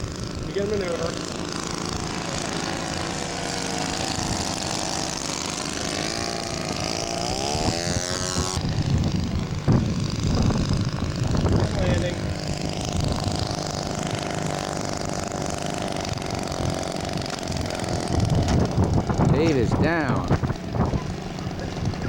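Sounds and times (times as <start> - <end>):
model plane propeller engine drone: 0.0 - 22.0.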